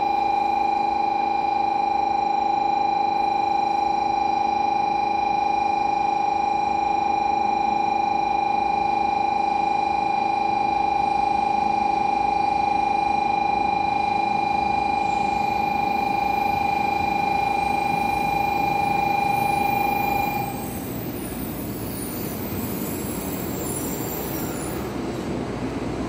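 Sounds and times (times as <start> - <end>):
electronic warning buzzer: 0.0 - 24.8.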